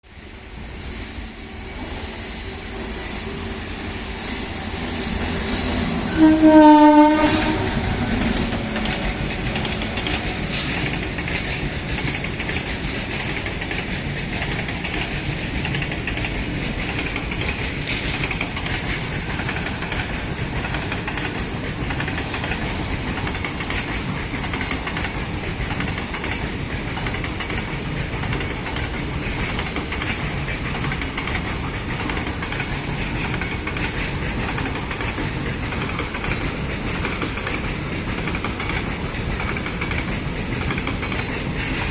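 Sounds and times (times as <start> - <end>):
train wheels on track: 0.0 - 41.9.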